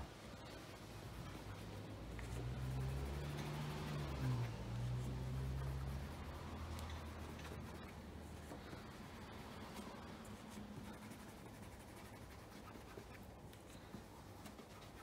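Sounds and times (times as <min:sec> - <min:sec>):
fingers rubbing polish on shoe: 0:00.5 - 0:15.0.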